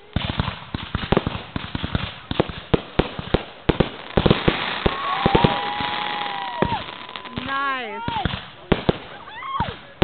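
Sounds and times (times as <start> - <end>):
crackling hiss: 0.0 - 10.0.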